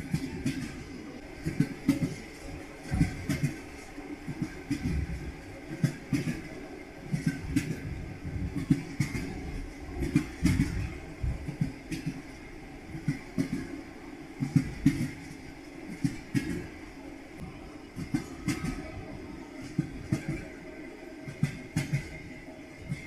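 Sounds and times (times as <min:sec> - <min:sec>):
train wheels clattering over joints: 0:00.0 - 0:13.8, 0:14.4 - 0:17.0, 0:17.9 - 0:23.0.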